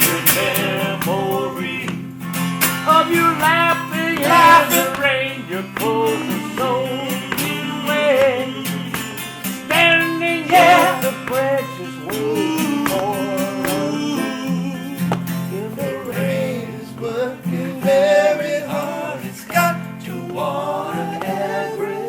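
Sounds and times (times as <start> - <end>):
live band with guitars: 0.0 - 22.0.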